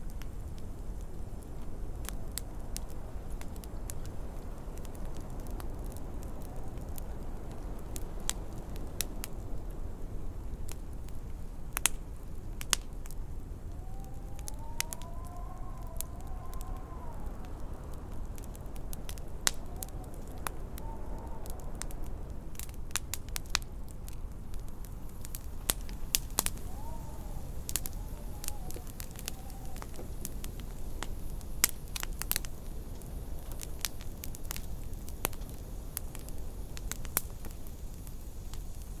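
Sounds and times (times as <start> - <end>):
wind rumbling and howling: 0.0 - 39.0
wood fire crackling and popping: 0.0 - 39.0.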